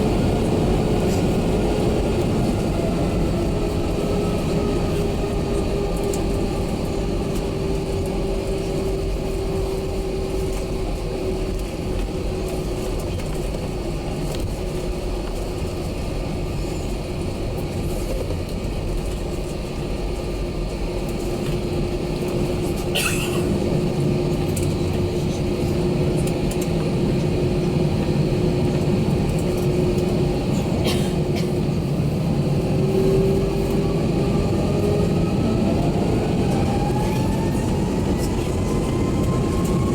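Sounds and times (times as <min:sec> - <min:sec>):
jet engines droning and whining: 0:00.0 - 0:39.9.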